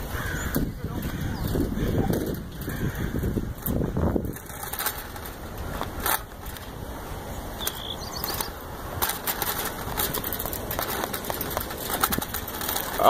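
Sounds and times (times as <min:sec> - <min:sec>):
wind rumbling on microphone: 0:00.0 - 0:13.0
clicks and rattles: 0:00.5 - 0:06.8, 0:07.6 - 0:13.0.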